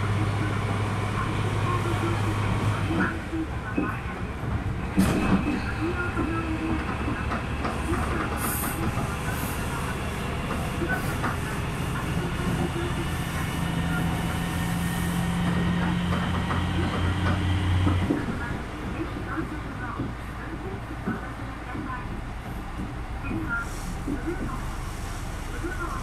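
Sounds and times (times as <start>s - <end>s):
diesel railcar engine drone: 0.0s - 26.0s.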